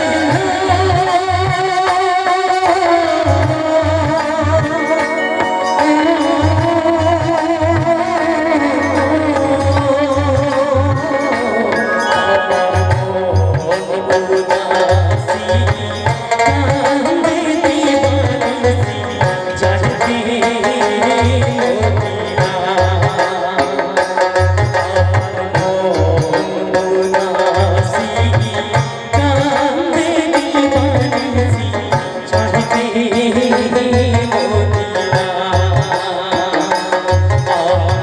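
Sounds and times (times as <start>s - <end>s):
keyboard melody: 0.0s - 38.0s
man singing: 0.0s - 38.0s.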